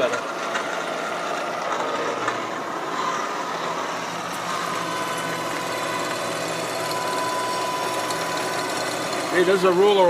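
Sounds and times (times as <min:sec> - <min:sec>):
milling machine cutting metal: 0:00.0 - 0:10.0.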